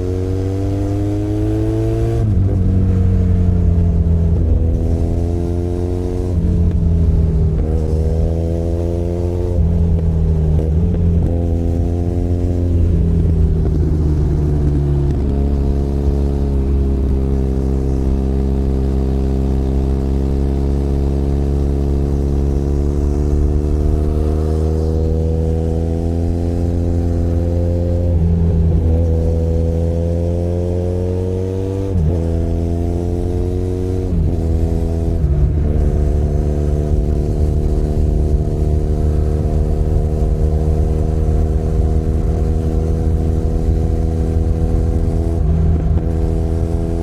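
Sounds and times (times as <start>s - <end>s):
motorcycle engine under throttle: 0.0s - 47.0s.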